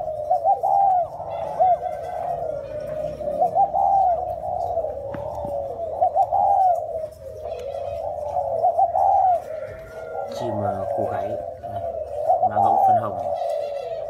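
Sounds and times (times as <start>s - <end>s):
doves cooing: 0.0s - 14.0s.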